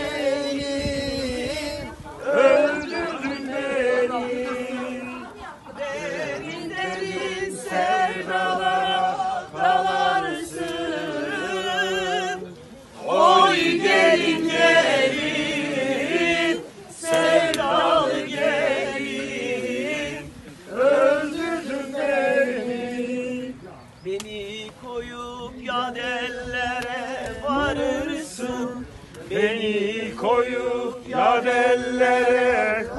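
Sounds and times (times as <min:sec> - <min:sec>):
group singing unaccompanied: 0:00.0 - 0:32.9.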